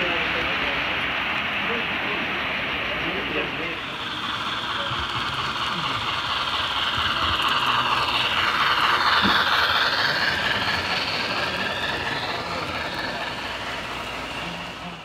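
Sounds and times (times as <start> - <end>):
model train rolling whir: 0.0 - 15.0.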